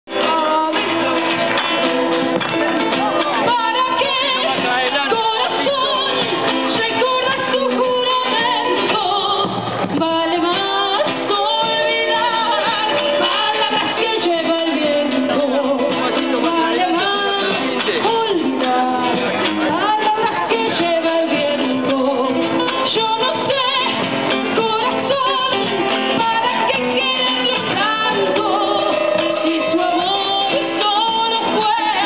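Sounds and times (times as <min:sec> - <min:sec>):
folk song with instruments: 0:00.1 - 0:32.0.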